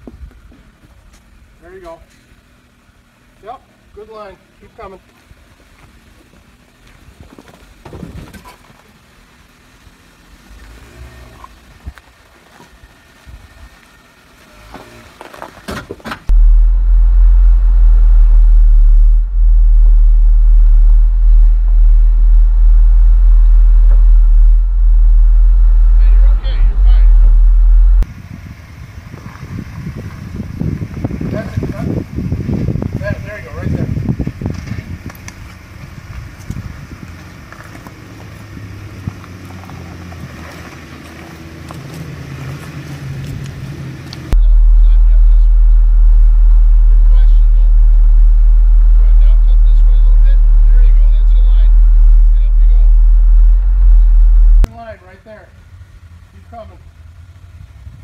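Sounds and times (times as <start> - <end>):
engine low rumble: 0.0 - 58.0.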